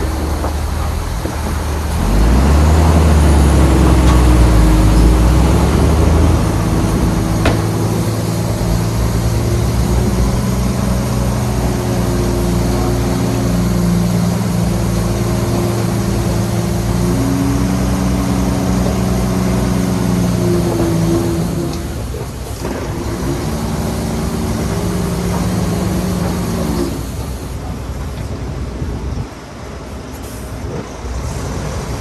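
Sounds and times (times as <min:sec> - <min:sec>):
bulldozer diesel engine rumbling: 0:00.0 - 0:32.0.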